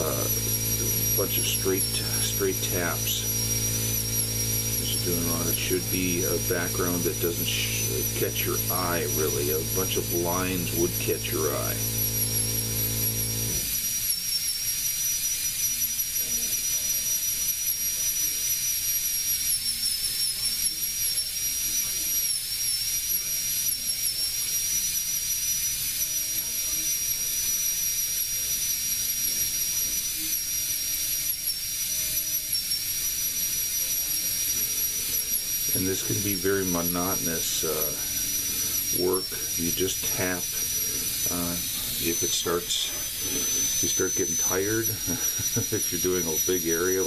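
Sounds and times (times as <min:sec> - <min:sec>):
rotary tool high-pitched whine: 0:00.0 - 0:47.0.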